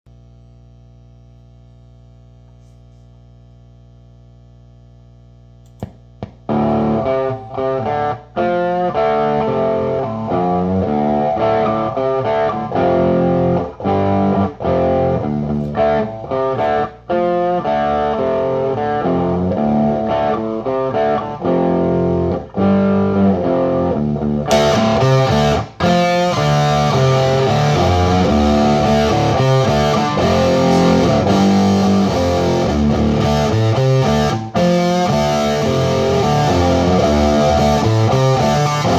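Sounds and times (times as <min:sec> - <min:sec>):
distorted electric guitar riffs: 0:05.7 - 0:38.9.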